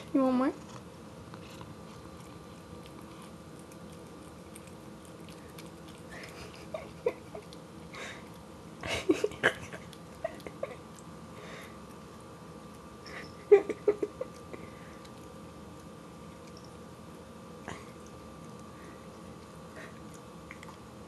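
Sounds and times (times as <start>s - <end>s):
cat licking and smacking: 1.3s - 11.2s, 13.6s - 21.0s.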